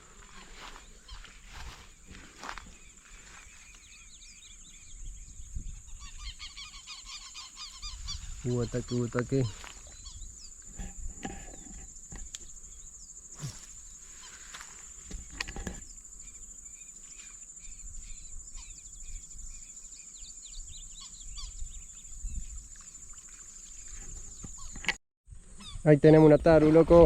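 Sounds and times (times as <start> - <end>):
bird chirps: 0.0 - 10.6, 11.5 - 24.9
insects droning: 0.0 - 25.0.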